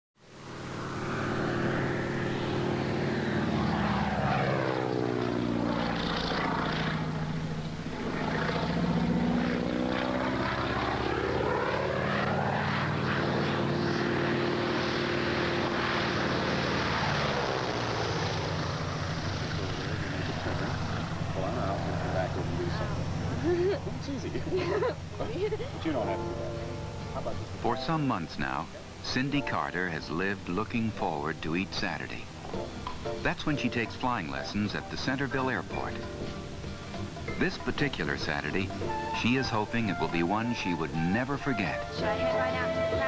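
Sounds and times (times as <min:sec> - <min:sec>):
propeller airplane engine: 0:00.2 - 0:43.0.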